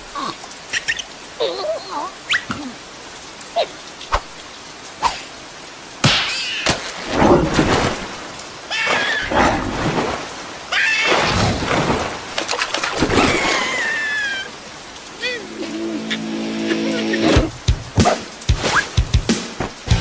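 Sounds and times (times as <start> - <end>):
rushing splashing water: 0.0 - 20.0.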